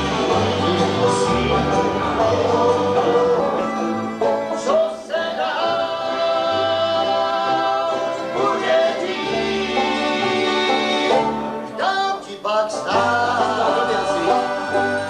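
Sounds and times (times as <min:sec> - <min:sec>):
acoustic guitar: 0:00.0 - 0:15.0
banjo: 0:00.0 - 0:15.0
fiddle: 0:00.0 - 0:15.0.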